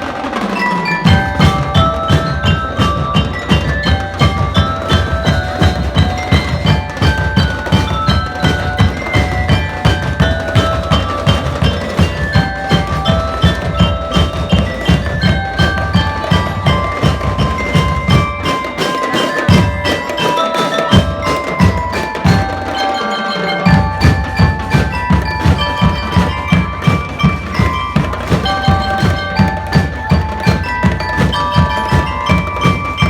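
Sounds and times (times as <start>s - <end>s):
bell lyres playing melody: 0.0s - 33.0s
marching drums beating: 0.0s - 33.0s.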